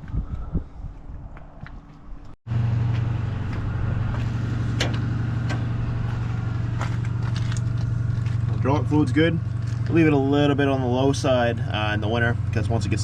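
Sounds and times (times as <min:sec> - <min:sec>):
engine idling: 0:02.5 - 0:13.0.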